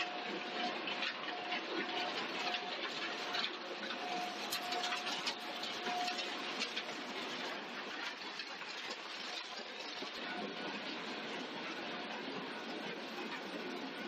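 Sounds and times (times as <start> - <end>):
conveyor belt rattling: 0.0 - 14.0
faint whine: 0.0 - 14.0.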